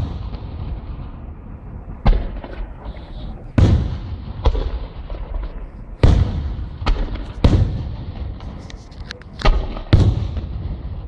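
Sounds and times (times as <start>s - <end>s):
fireworks banging: 0.0s - 11.0s
small firework crackles: 0.0s - 11.0s.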